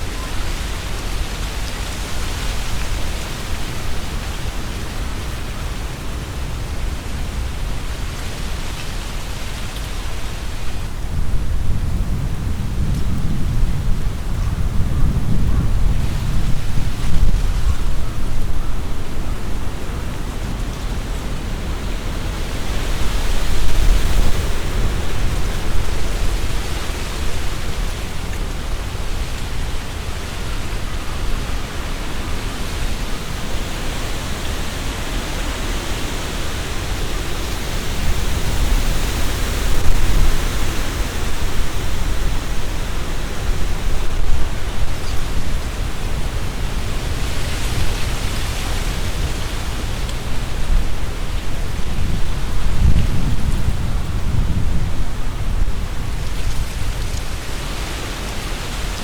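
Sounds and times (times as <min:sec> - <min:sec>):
wind buffeting microphone: 0:00.0 - 0:59.0
wind rustling tree leaves: 0:00.0 - 0:59.0.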